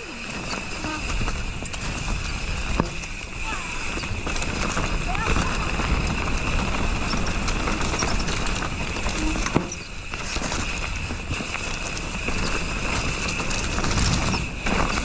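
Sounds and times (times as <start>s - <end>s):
bike rattling over bumps: 0.0s - 15.0s
bike tyres rolling on dirt: 0.0s - 15.0s
wind rumbling on microphone: 0.0s - 15.0s.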